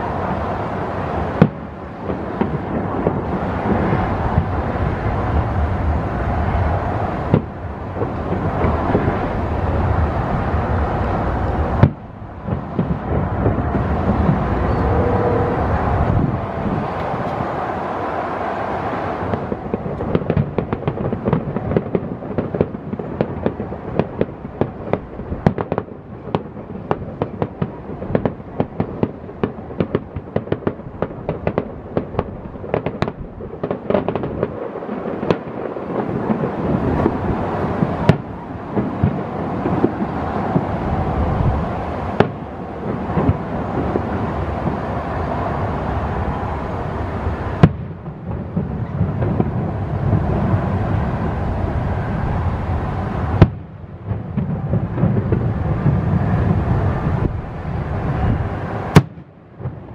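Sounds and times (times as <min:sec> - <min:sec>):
fireworks popping and banging: 0:00.0 - 0:15.0, 0:19.2 - 0:46.4, 0:47.5 - 0:51.3, 0:53.3 - 0:59.9.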